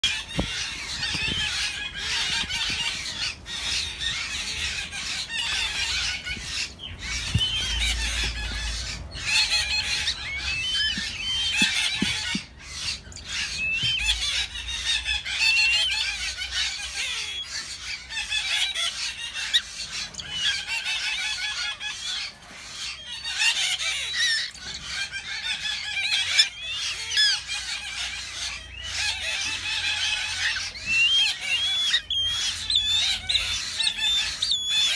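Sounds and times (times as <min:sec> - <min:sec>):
eagle chicks peeping: 0:00.0 - 0:34.9.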